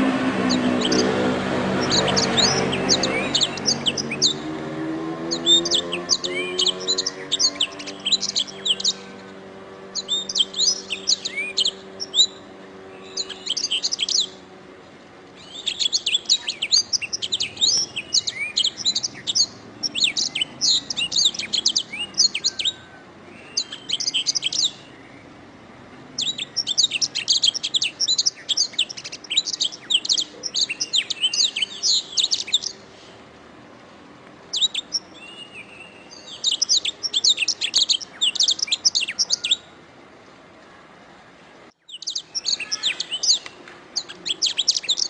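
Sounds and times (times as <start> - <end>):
canary singing: 0.0 - 33.0, 34.5 - 39.8, 41.8 - 45.0.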